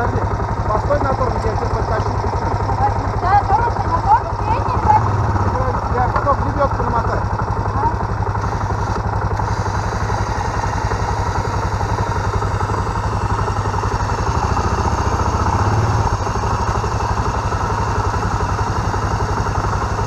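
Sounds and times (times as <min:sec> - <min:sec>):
small vehicle engine idling and revving: 0:00.0 - 0:20.0.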